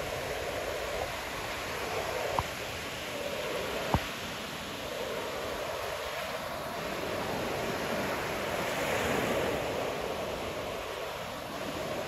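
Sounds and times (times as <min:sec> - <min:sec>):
waves breaking on a beach: 0:00.0 - 0:12.0.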